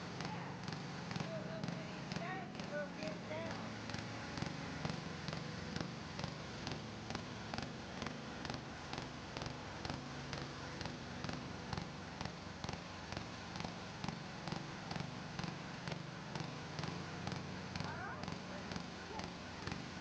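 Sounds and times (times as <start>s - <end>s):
log splitter humming: 0.0s - 20.0s.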